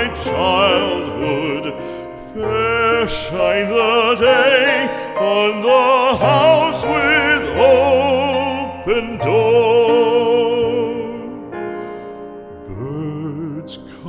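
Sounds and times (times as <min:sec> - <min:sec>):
classical singer with vibrato: 0:00.0 - 0:11.7, 0:12.6 - 0:14.0
piano accompaniment: 0:00.0 - 0:14.0.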